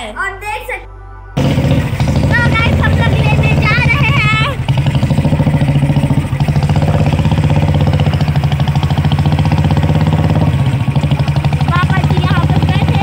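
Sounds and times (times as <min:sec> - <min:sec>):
motorcycle engine running: 0:01.4 - 0:13.0.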